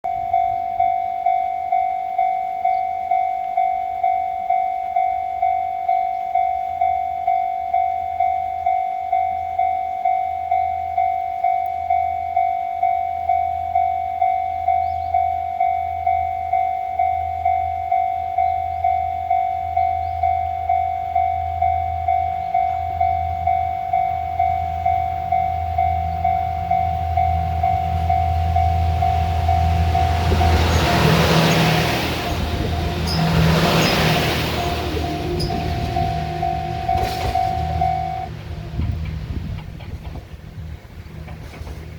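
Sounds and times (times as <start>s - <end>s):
level-crossing alarm bell: 0.0s - 39.3s
train rumble approaching: 0.0s - 41.9s.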